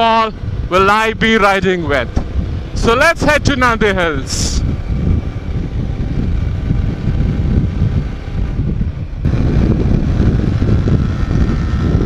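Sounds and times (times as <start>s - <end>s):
motorcycle engine: 0.0s - 12.0s
wind buffeting microphone: 0.0s - 12.0s.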